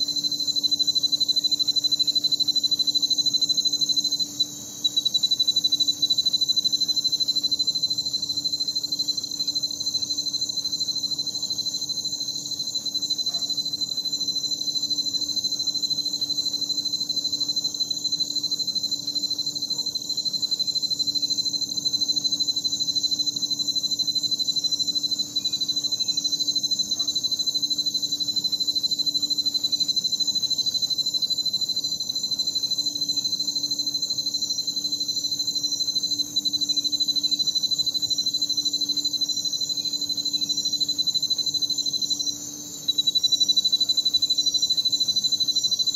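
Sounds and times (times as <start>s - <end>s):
crickets trilling: 0.0s - 45.9s
frogs droning: 0.0s - 45.9s.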